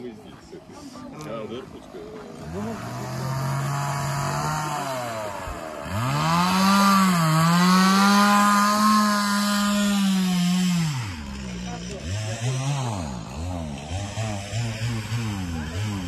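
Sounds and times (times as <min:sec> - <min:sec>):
chainsaw cutting wood: 0:01.2 - 0:16.0.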